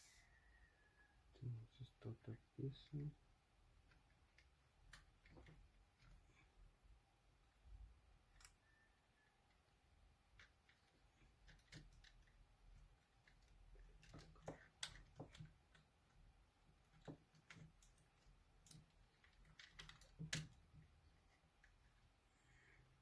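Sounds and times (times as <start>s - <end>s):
small parts clicking and tapping: 2.8s - 6.7s, 7.5s - 22.2s.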